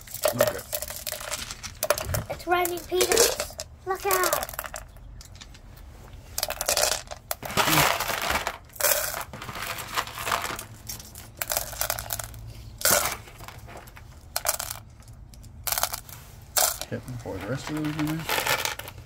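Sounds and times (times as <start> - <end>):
pellets clattering onto stones: 0.0 - 5.6, 6.4 - 14.8, 15.6 - 19.0.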